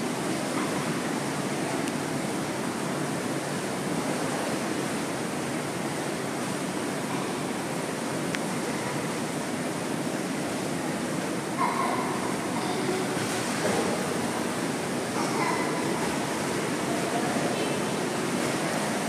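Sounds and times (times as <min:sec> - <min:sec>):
churning water rushing: 0:00.0 - 0:19.0.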